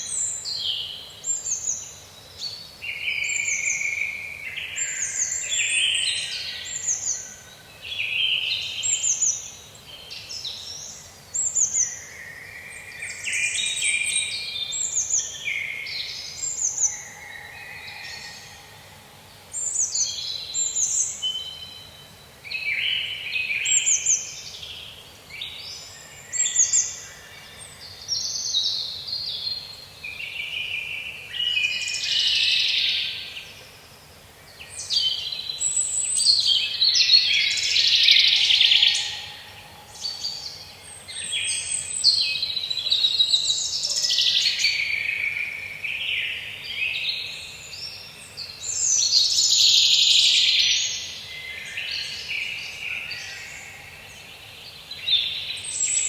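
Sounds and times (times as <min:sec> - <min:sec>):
songbirds singing in chorus: 0:00.0 - 0:56.0.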